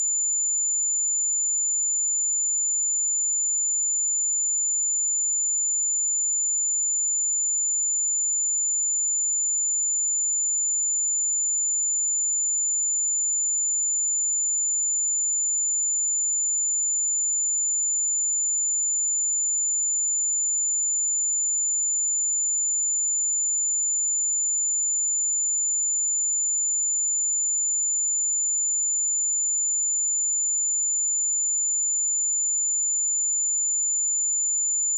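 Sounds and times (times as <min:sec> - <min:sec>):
sine-wave test tone: 0:00.0 - 0:34.9.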